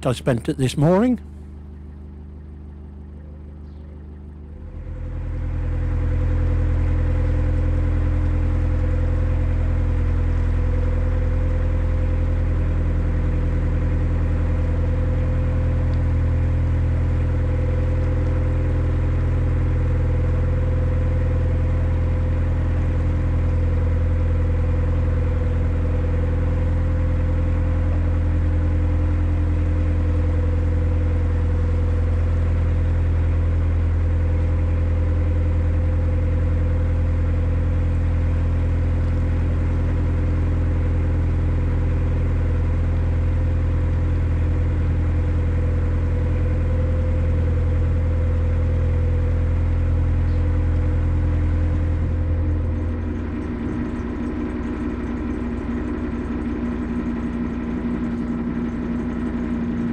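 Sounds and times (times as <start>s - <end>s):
boat diesel engine running: 0.0s - 59.9s.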